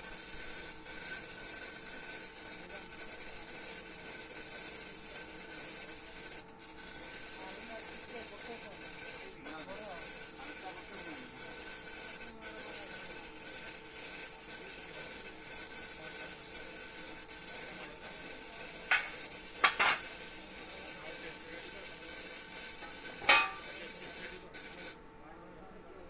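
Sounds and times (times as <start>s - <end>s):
welding arc sizzling: 0.0s - 25.1s.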